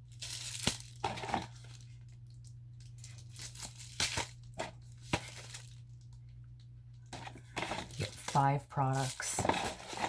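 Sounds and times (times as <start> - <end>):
packaging crinkling and rustling: 0.0 - 6.2, 7.0 - 10.0.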